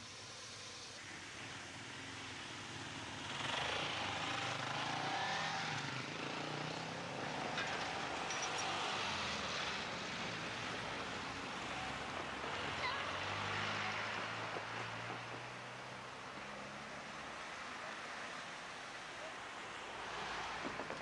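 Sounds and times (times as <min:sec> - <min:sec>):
vehicles driving past: 0:00.2 - 0:21.0.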